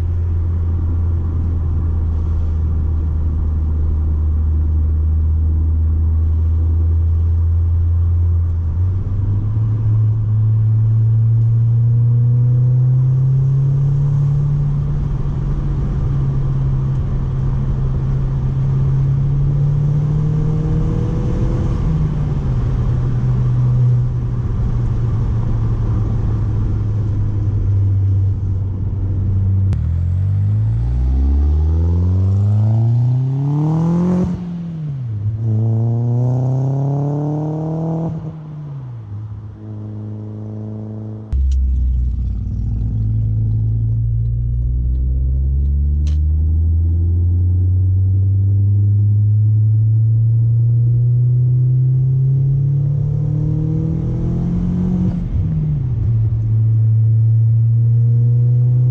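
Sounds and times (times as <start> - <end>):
car engine droning: 0.0 - 58.9
car engine revving: 0.0 - 58.9.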